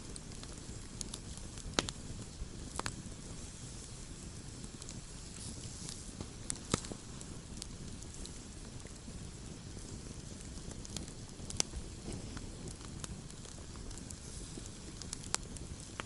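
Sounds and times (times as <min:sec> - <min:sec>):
campfire crackling: 0:00.0 - 0:16.0
sharp pops of burning wood: 0:00.0 - 0:16.0.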